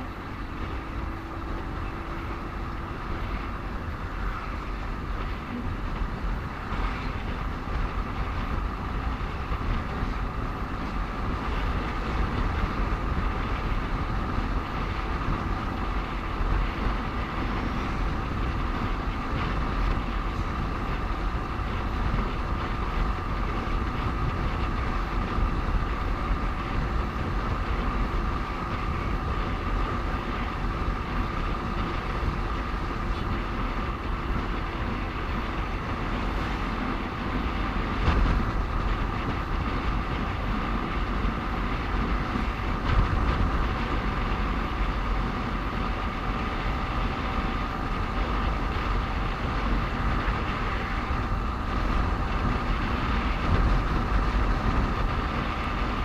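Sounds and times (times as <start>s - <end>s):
steady whine: 0.0s - 56.0s
wind rumble on microphone: 0.0s - 56.0s.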